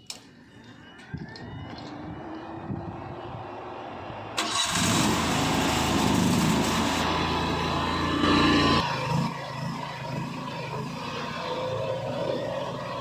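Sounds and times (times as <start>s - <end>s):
engine cranking whine: 0.6s - 13.0s
engine running: 1.9s - 13.0s.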